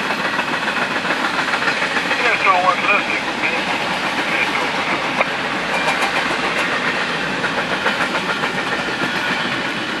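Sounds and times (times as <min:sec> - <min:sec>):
train wheels rushing on rail: 0:00.0 - 0:10.0.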